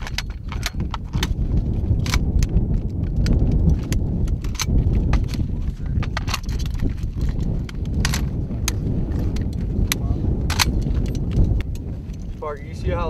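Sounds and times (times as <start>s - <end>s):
metal clicks of gun parts: 0.0s - 12.3s
steady low rumble: 0.0s - 13.0s.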